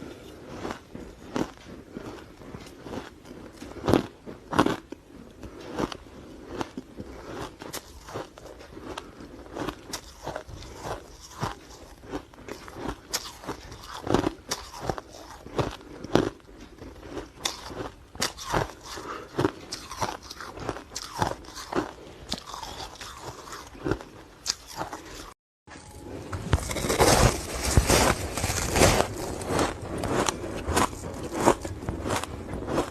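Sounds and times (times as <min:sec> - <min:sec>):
ice being chewed: 0:00.0 - 0:32.9.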